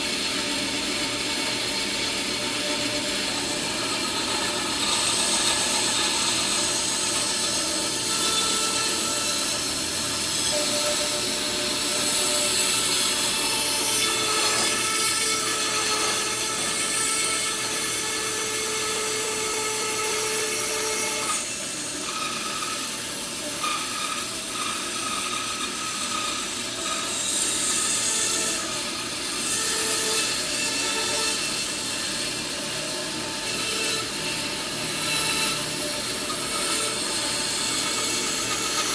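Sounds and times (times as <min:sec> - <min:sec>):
power tool cutting wood: 0:00.0 - 0:38.9.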